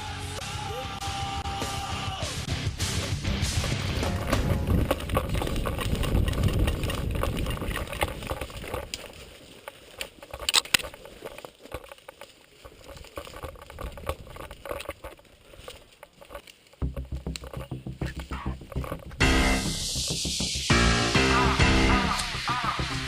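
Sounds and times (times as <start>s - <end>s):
footsteps through underbrush: 1.4s - 20.3s.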